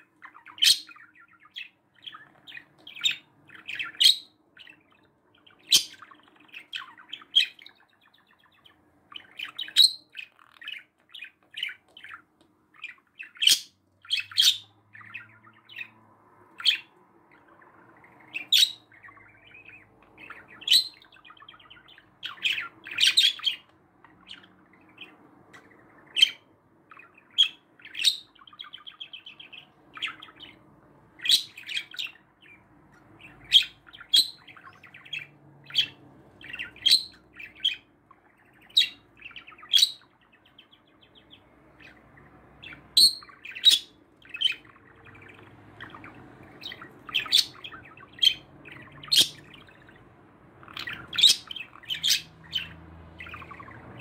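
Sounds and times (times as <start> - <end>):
budgerigars chirping: 0.0 - 54.0
warbling bird chatter: 0.0 - 54.0.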